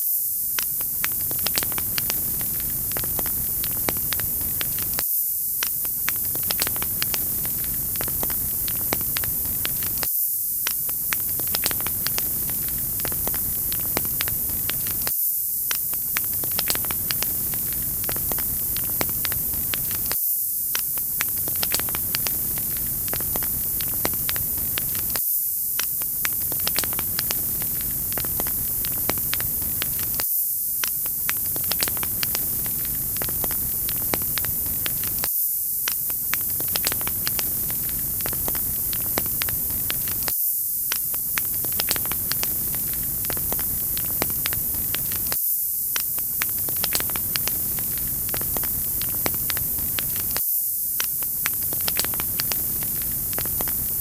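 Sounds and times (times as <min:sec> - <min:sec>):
wood fire crackling: 0:00.6 - 0:05.0, 0:05.6 - 0:15.1, 0:15.7 - 0:20.2, 0:20.8 - 0:25.2, 0:25.8 - 0:30.2, 0:30.8 - 0:35.3, 0:35.9 - 0:40.3, 0:40.9 - 0:50.4, 0:51.0 - 0:54.0.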